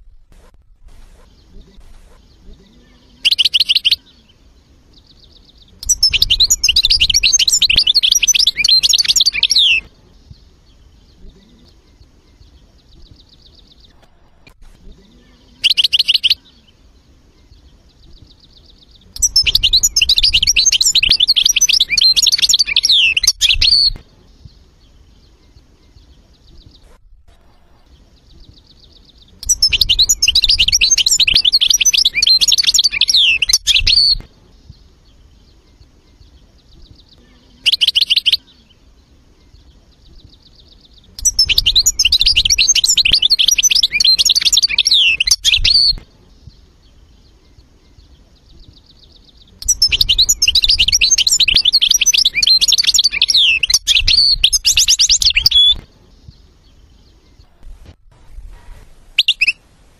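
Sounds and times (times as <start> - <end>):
finch twittering song: 0.9 - 59.7.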